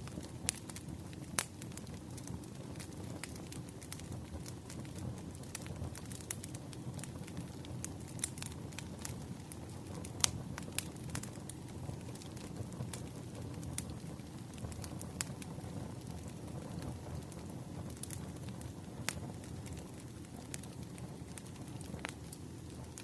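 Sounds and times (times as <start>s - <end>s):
firewood burning and crackling: 0.0s - 23.0s.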